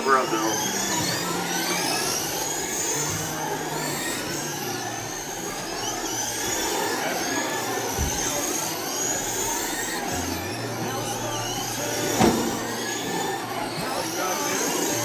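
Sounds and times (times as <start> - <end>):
rc race car motors whining: 0.0 - 15.0.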